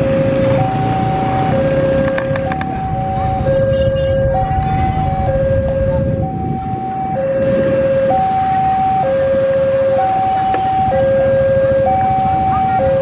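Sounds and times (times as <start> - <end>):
two-tone crossing warning alarm: 0.0 - 13.0.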